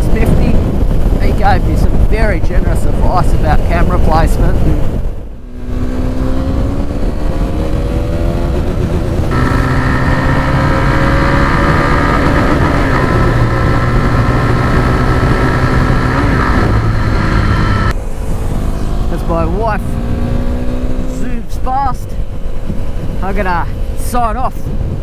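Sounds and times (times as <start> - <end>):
road and wind noise: 0.0 - 25.0
motorcycle engine running: 3.5 - 25.0.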